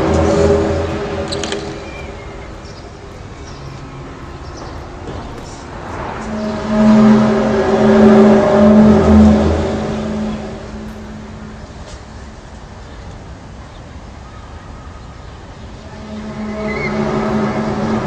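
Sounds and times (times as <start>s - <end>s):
low droning horn-like tone: 0.0s - 12.5s, 15.8s - 18.0s.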